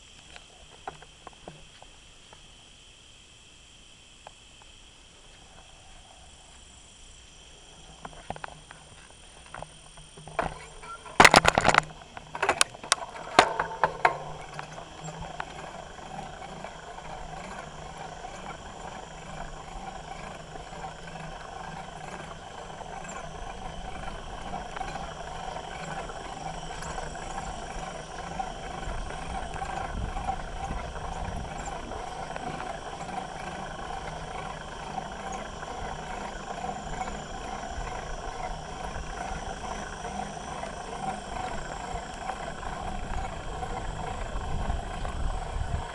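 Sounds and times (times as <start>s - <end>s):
bike rattling rumble: 7.6s - 45.9s.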